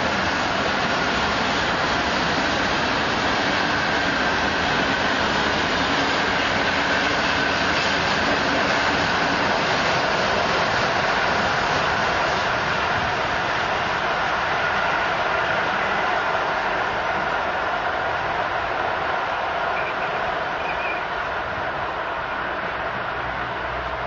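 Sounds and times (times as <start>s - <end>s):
train wheels rolling on rail: 0.0s - 24.0s.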